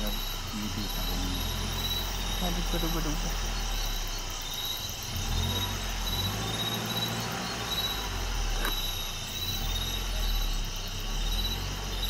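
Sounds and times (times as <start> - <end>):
crickets chirping: 0.0 - 12.0
vehicle engine idling: 0.0 - 12.0.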